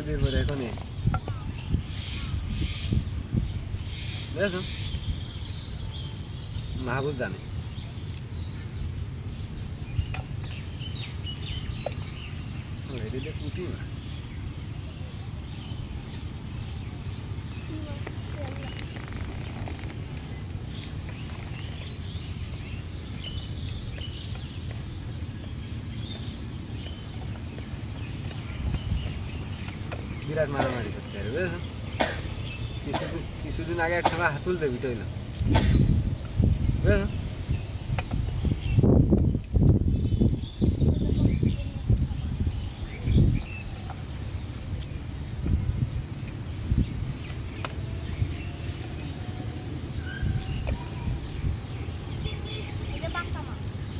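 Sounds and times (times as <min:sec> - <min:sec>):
birds chirping: 0:00.0 - 0:53.9
low outdoor rumble: 0:00.0 - 0:53.9.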